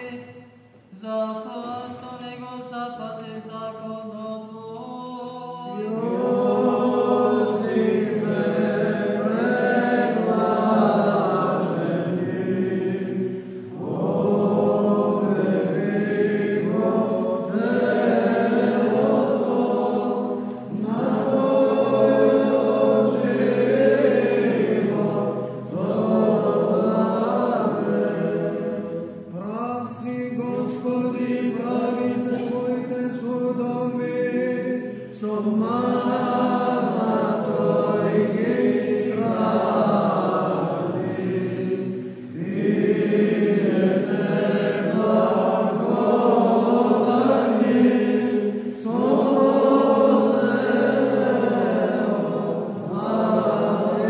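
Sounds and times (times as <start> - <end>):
male choir chanting: 4.8 - 54.0.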